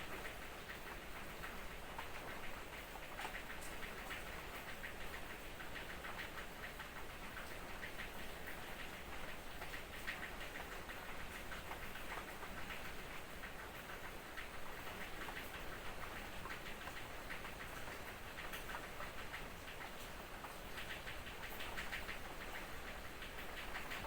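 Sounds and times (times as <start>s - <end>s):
soft hiss of rain: 0.0s - 24.0s.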